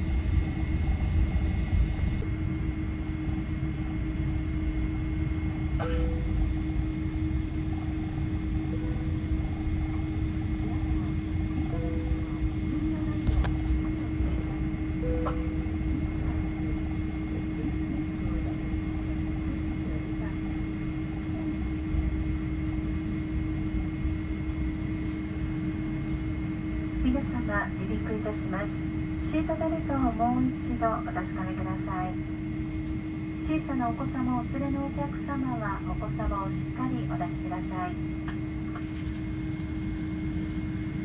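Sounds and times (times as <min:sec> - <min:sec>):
jet engine cabin rumble: 0:00.0 - 0:41.0
low hum: 0:00.0 - 0:41.0.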